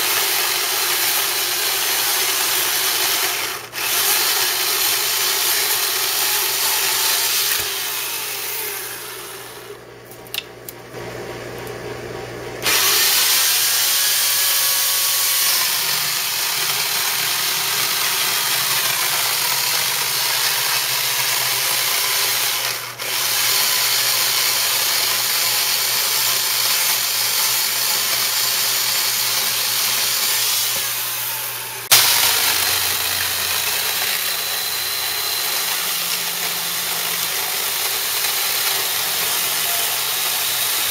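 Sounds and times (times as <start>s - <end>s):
electric chainsaw cutting wood: 0.0s - 9.8s, 12.6s - 40.9s.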